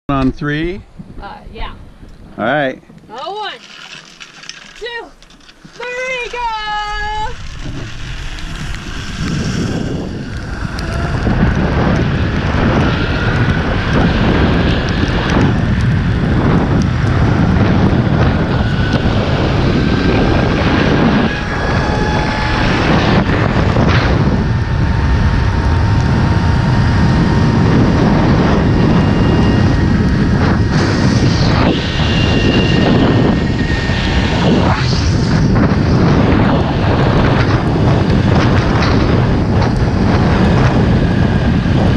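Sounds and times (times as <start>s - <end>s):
wind buffeting microphone: 0.1s - 41.9s
zipline pulleys whining on cable: 3.1s - 41.9s.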